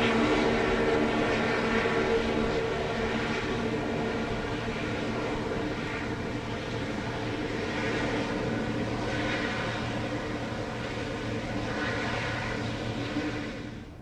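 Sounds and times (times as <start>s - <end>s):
airliner engines running: 0.0s - 14.0s.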